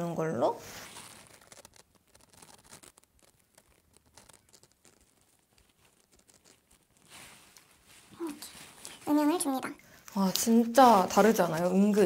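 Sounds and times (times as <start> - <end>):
faint light ticks and scratches: 0.9 - 12.0.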